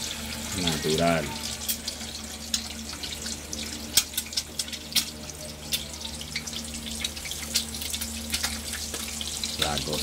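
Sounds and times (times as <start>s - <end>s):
egg sizzling in oil: 0.0s - 10.0s.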